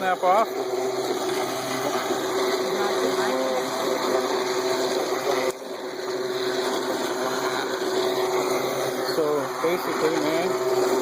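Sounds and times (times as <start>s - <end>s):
string trimmer motor whine: 0.0s - 11.0s.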